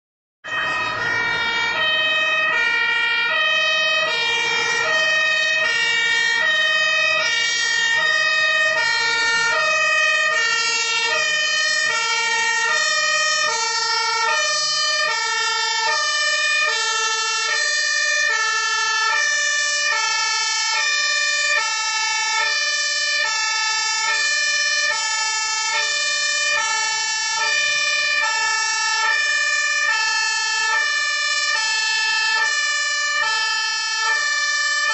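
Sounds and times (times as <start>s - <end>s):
two-tone siren: 0.4s - 34.9s.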